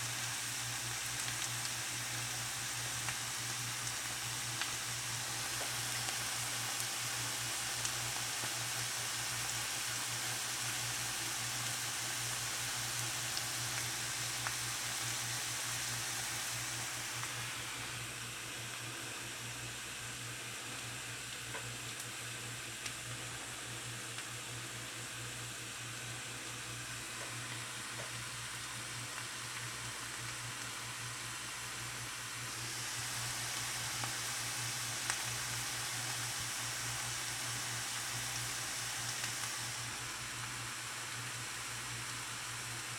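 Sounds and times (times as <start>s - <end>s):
potatoes sizzling in oil: 0.0s - 42.9s.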